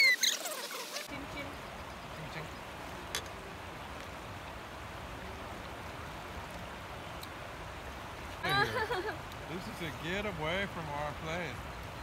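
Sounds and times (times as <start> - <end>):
outdoor ambience hiss by water: 0.0 - 12.0.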